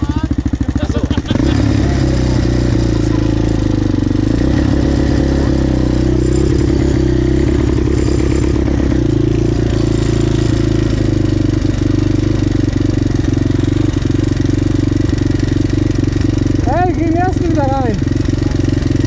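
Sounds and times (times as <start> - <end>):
quad bike engine idling: 0.0 - 19.0.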